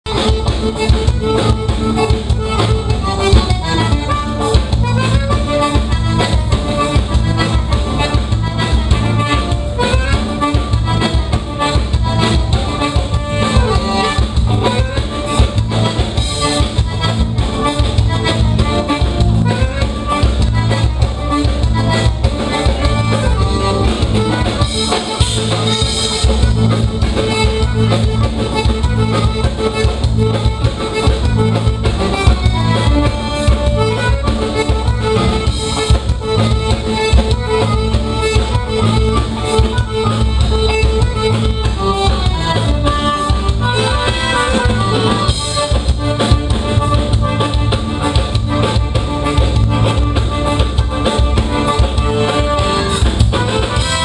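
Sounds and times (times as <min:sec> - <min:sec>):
electric guitar: 0:00.0 - 0:54.0
live dance band playing: 0:00.0 - 0:54.0
piano accordion: 0:00.0 - 0:54.0
drum kit beat: 0:00.1 - 0:54.0.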